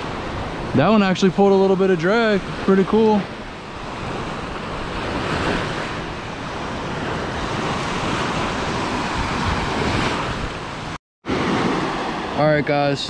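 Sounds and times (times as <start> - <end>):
small waves breaking on sand: 0.0 - 13.0
wind on microphone: 1.6 - 12.4.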